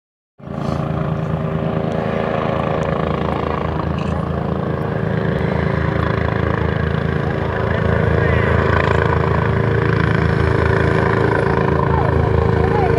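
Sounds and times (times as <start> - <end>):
helicopter rotor chop: 0.4 - 12.9
helicopter turbine hum: 0.4 - 12.9.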